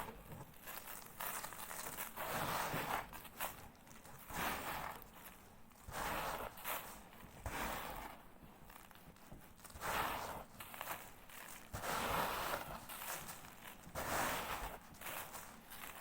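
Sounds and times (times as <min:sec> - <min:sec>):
sand sliding on cardboard: 0:00.8 - 0:08.2, 0:09.7 - 0:16.0.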